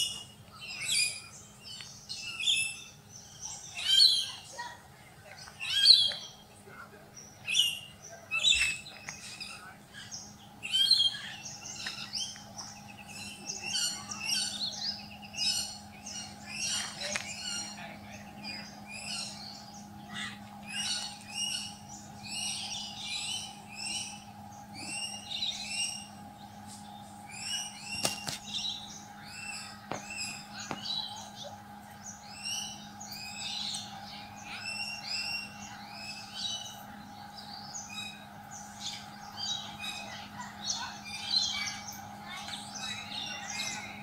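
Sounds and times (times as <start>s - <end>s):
birds chirping: 0.0s - 44.0s
steady low hum: 0.0s - 44.0s.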